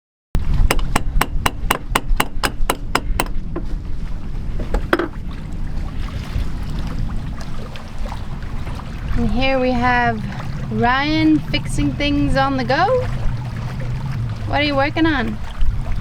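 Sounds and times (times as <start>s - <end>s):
low rumble of a boat: 0.4s - 16.0s.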